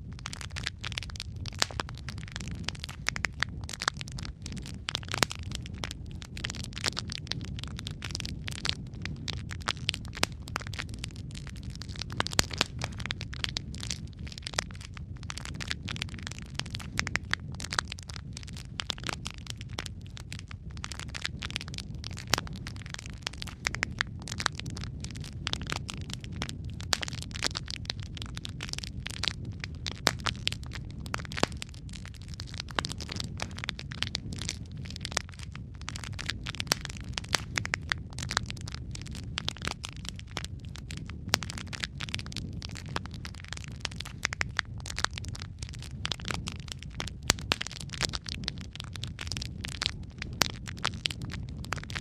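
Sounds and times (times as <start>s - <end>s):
low rumble: 0.0s - 52.0s
wood fire crackling and popping: 0.0s - 52.0s.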